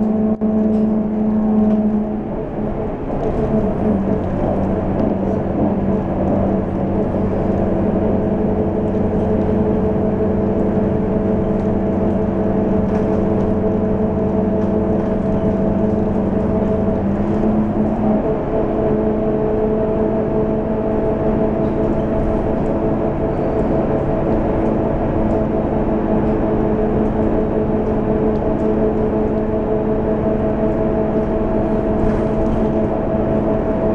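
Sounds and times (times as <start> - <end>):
bus diesel engine humming: 0.0 - 33.9.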